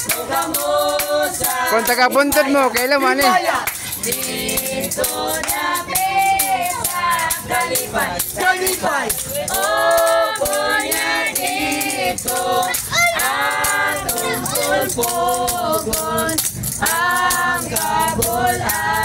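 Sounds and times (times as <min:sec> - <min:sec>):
group of people singing: 0:00.0 - 0:19.0
tambourine jingling: 0:00.0 - 0:19.0.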